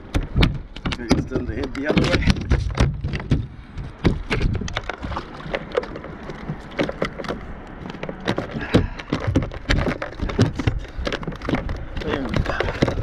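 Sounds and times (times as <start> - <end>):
fish slapping against hull: 0.0 - 13.0
water splashing: 0.0 - 13.0.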